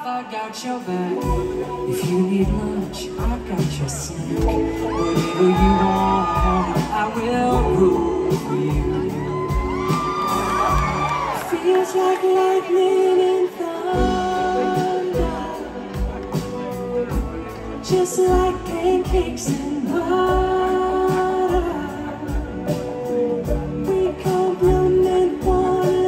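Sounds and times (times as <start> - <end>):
live pop band: 0.0 - 26.0
person singing: 0.0 - 26.0.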